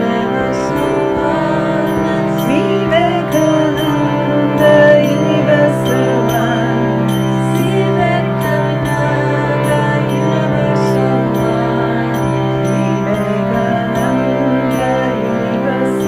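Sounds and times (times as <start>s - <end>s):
steady drone: 0.0s - 16.0s.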